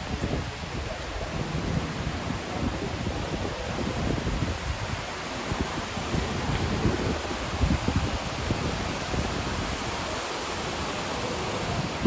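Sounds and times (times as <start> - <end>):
steady rain falling: 0.0 - 12.0
wind rumbling on microphone: 0.0 - 12.0.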